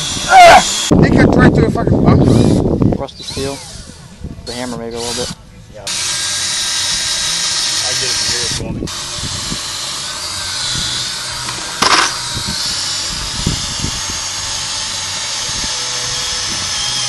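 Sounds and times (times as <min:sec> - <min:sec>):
electric drill boring into steel: 0:00.0 - 0:00.9, 0:02.2 - 0:17.0.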